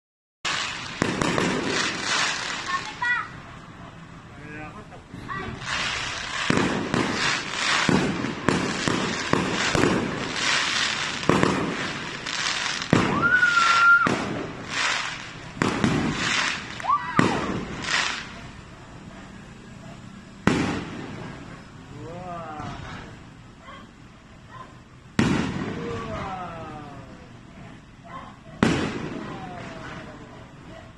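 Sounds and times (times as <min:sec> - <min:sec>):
fireworks bangs and crackle: 0:00.5 - 0:03.7, 0:04.6 - 0:23.6, 0:25.0 - 0:30.9.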